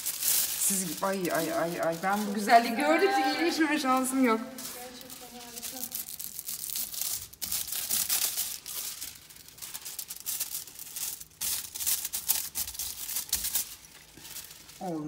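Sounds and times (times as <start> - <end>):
foil leaf crinkling: 0.0 - 15.0.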